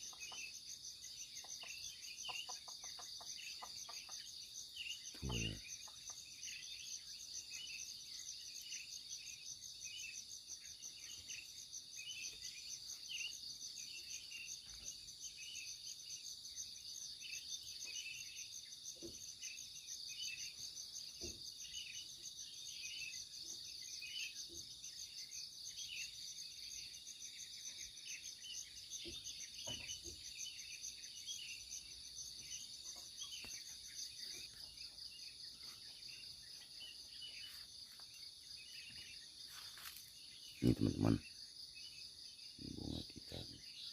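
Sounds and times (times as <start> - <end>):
bird chirps: 0.0 - 43.9
insects trilling: 0.0 - 43.9.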